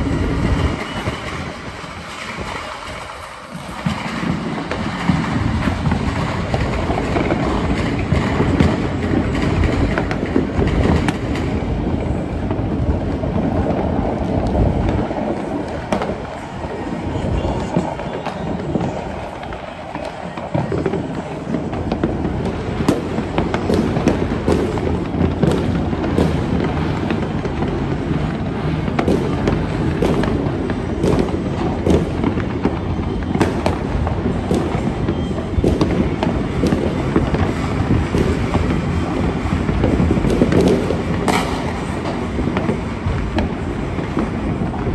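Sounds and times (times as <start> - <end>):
firecracker cracks and pops: 0.0 - 44.9
fireworks banging: 0.0 - 44.9.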